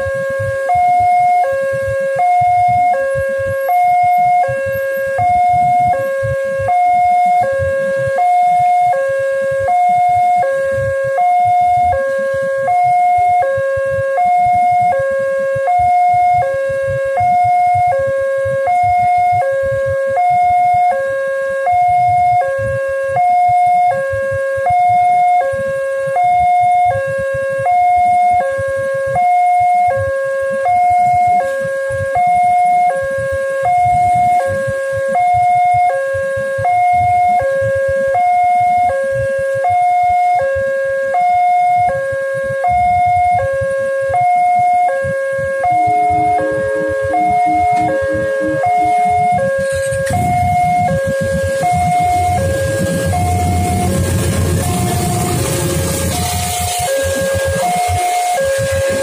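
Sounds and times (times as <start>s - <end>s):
two-tone crossing alarm: 0.0s - 59.0s.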